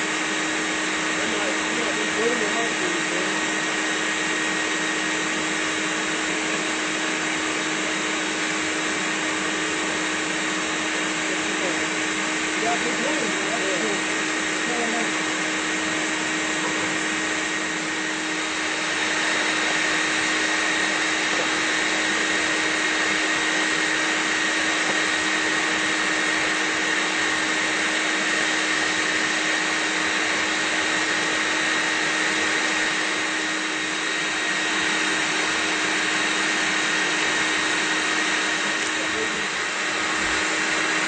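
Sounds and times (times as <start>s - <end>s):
shop vacuum running: 0.0s - 41.0s.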